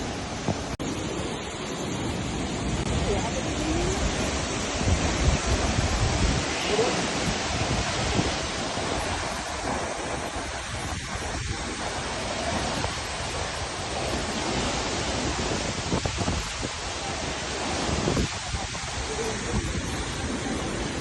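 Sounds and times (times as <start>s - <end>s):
waterfall rushing: 0.0s - 21.0s
wind buffeting microphone: 2.1s - 21.0s.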